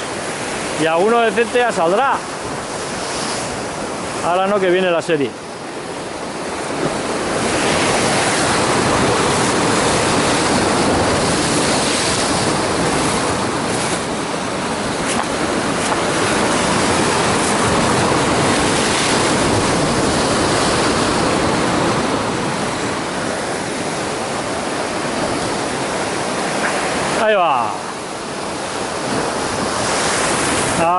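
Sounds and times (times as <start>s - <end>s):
waves breaking on rocks: 0.0s - 30.9s.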